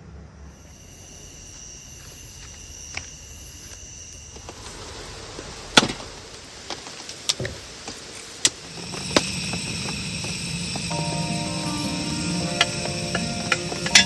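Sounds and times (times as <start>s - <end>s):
insects chirring: 0.3s - 14.0s.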